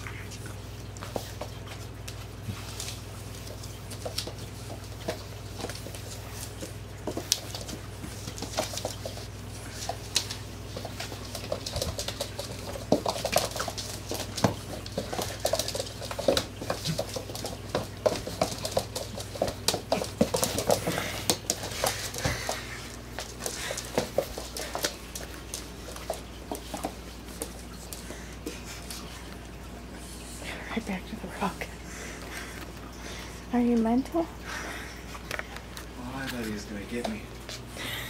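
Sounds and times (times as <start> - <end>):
shuffling footsteps: 0.0 - 31.1, 34.7 - 38.0
dog claws clicking on hardwood floor: 0.2 - 29.0, 35.2 - 37.6.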